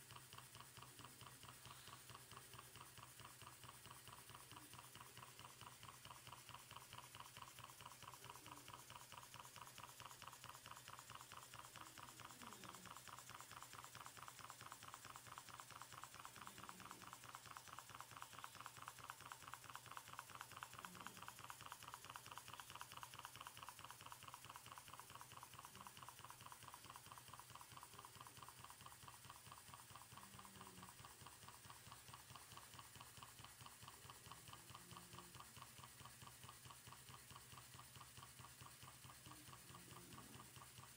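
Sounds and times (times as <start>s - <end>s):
steam engine chuffing: 0.0s - 40.9s.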